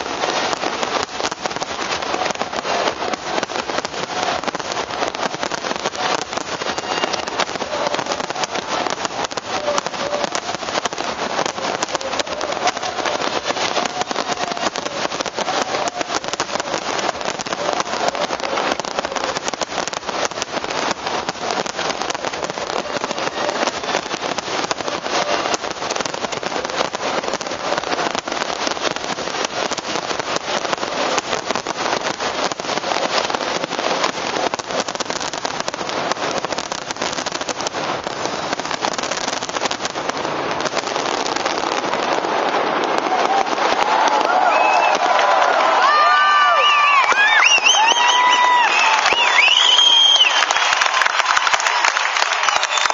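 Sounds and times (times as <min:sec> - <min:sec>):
fireworks crackling: 0:00.0 - 0:52.9.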